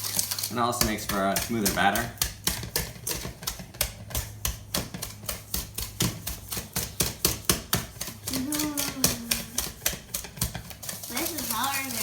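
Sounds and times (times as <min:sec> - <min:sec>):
wire whisk clicking against bowl: 0:00.8 - 0:12.0.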